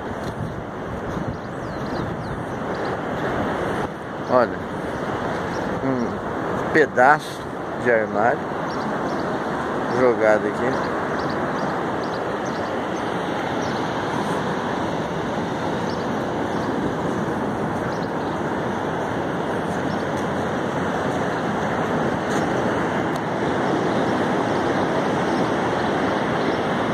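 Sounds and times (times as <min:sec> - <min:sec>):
ocean surf on beach: 0:00.0 - 0:26.9.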